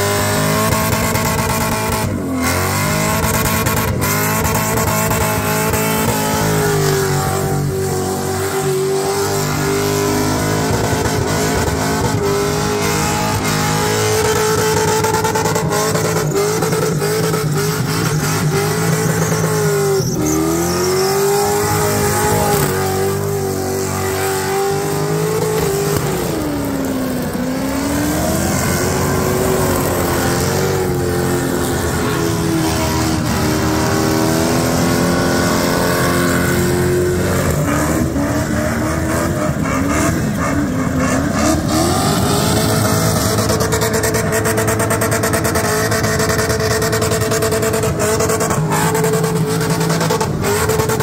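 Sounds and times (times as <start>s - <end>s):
car engine revving high: 0.0s - 51.0s.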